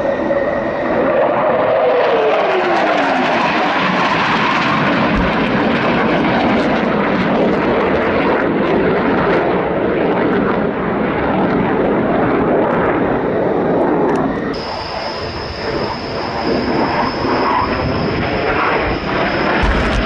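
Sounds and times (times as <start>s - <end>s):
jet engine noise: 0.0s - 20.0s.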